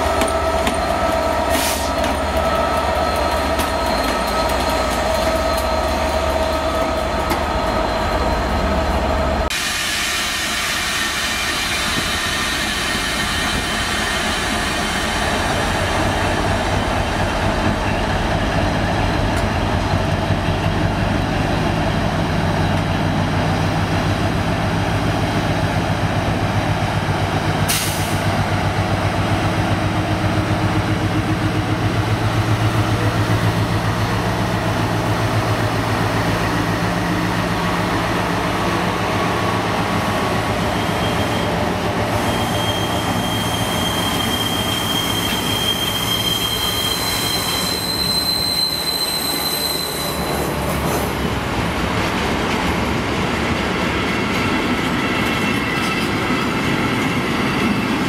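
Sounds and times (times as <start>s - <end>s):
diesel locomotive engine hum: 0.0s - 58.0s
train wheels rolling on rails: 0.0s - 58.0s.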